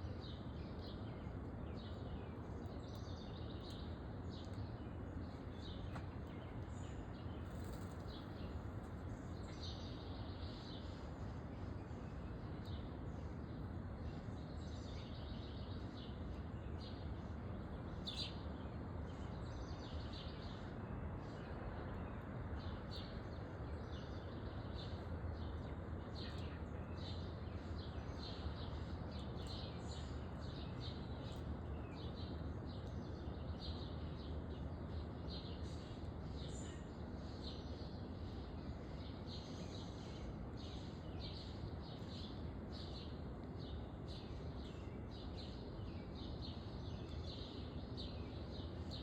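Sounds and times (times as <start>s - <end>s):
low outdoor background rumble: 0.0s - 49.0s.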